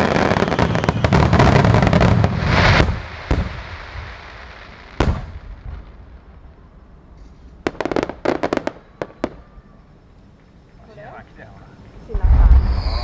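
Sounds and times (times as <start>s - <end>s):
fireworks bursting: 0.0s - 9.5s, 12.0s - 13.0s
crackling pops of fireworks: 0.0s - 13.0s.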